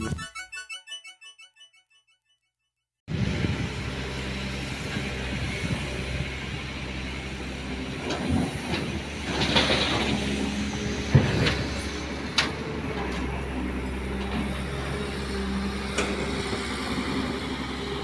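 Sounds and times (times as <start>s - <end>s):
diesel engines running: 3.1s - 18.0s.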